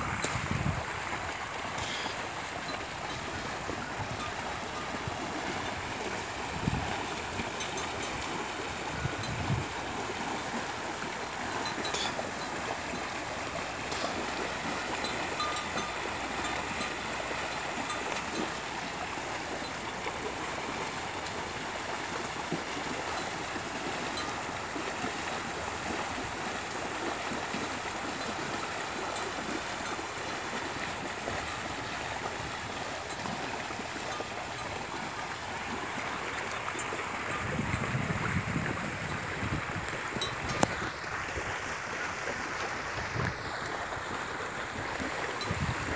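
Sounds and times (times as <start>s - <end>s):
wind rumble on microphone: 0.0s - 26.6s, 30.2s - 41.6s, 42.7s - 45.9s
water sloshing and splashing: 0.0s - 45.9s.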